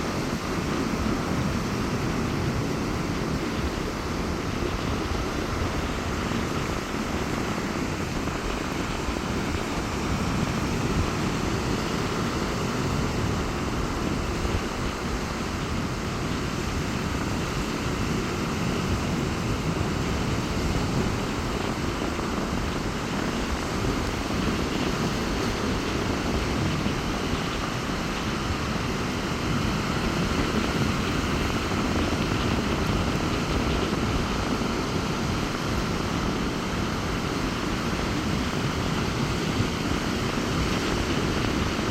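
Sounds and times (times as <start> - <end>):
surf breaking on beach: 0.0 - 41.9
wind blowing on microphone: 0.0 - 41.9.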